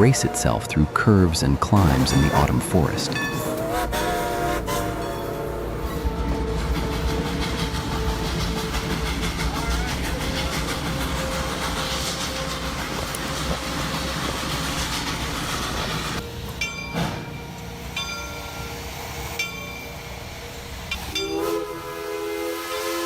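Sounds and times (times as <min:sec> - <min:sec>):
steam locomotive rumbling: 0:00.0 - 0:23.0
steam whistle chord: 0:01.9 - 0:23.0.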